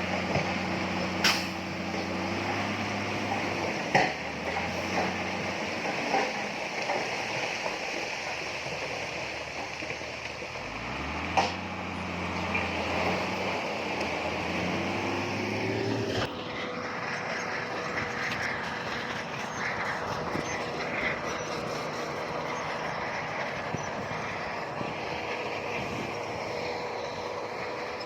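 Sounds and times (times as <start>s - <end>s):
bulldozer running: 0.0s - 28.0s
high tone of crawler tracks: 0.0s - 28.0s.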